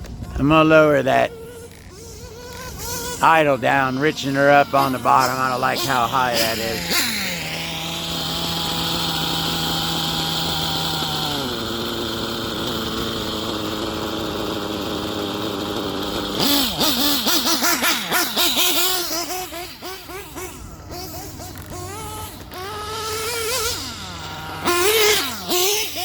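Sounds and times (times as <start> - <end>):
model car engine idling and revving: 0.0 - 26.0.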